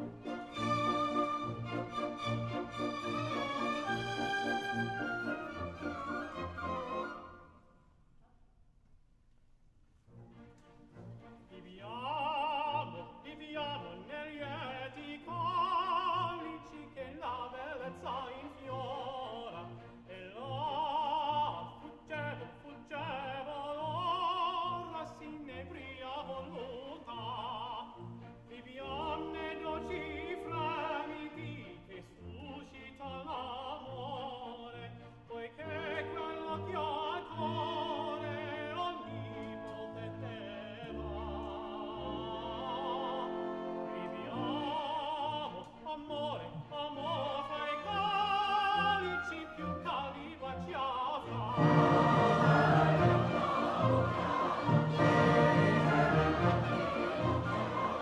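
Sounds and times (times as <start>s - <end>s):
operatic singer with orchestra: 0.0s - 7.5s, 11.2s - 58.0s.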